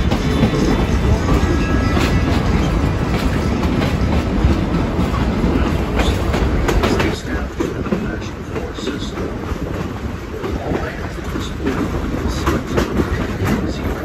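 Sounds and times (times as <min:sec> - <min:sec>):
clacks over rail joints: 0:00.0 - 0:14.0
train wheels rumbling on rails: 0:00.0 - 0:14.0.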